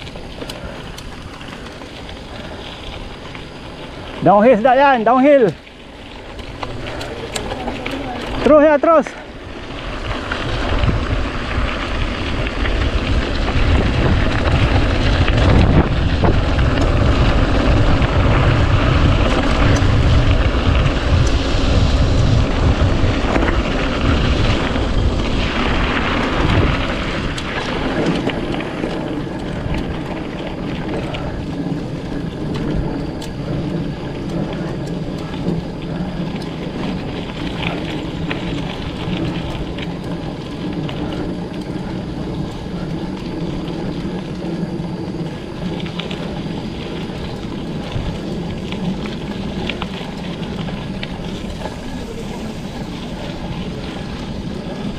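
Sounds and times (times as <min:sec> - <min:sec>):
bike tyres rumbling over dirt: 0:00.0 - 0:54.9
wind buffeting microphone: 0:00.0 - 0:54.9.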